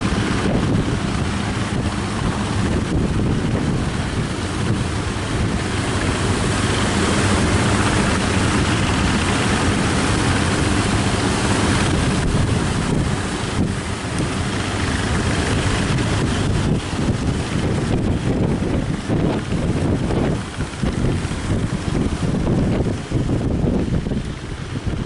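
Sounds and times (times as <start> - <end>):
boat engine running: 0.0 - 25.0
surf breaking: 0.0 - 25.0
wind buffeting microphone: 0.0 - 25.0.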